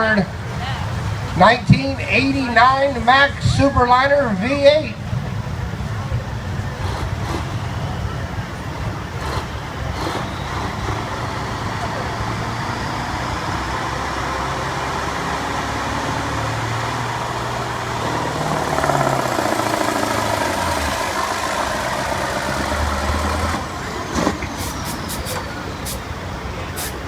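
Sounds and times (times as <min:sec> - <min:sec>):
diesel truck engine under load: 0:00.0 - 0:27.0.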